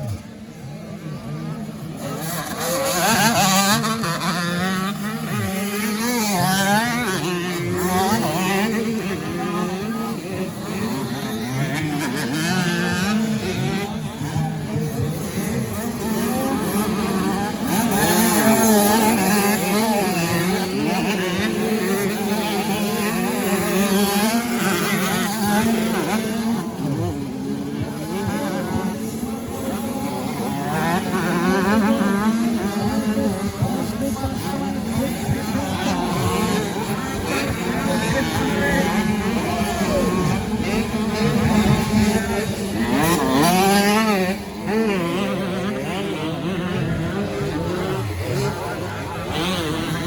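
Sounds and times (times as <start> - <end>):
motocross bikes revving: 0.0 - 50.0.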